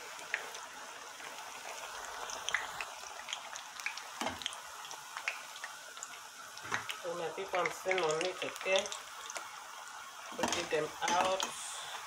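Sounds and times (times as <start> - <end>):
oil sizzling with pops: 0.0 - 12.0.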